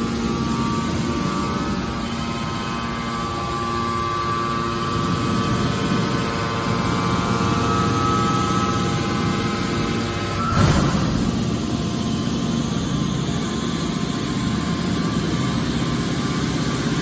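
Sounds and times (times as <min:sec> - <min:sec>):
hydraulic pump whine: 0:00.0 - 0:17.0.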